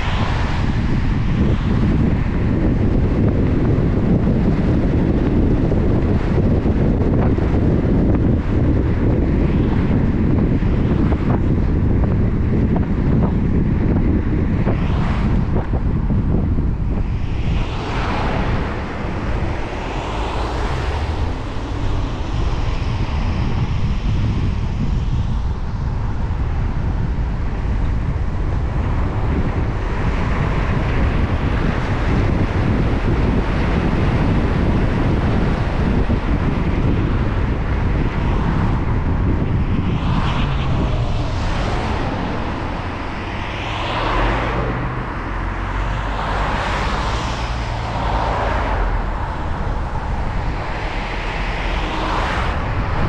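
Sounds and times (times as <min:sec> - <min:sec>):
car driving on wet road: 0:00.0 - 0:53.0.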